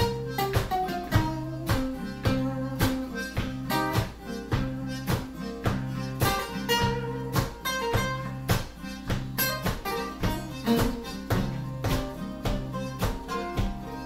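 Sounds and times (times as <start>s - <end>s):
guitars strumming chords: 0.0s - 14.0s.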